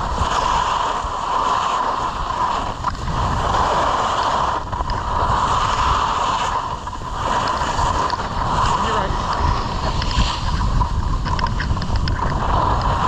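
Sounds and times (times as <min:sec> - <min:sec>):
skis scraping over snow: 0:00.0 - 0:13.0
wind rumbling on microphone: 0:00.0 - 0:13.0.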